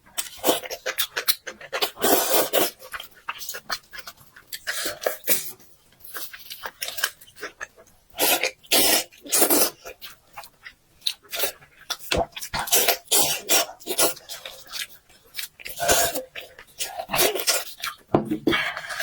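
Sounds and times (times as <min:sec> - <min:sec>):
wet chewing and slurping: 0:00.1 - 0:19.0.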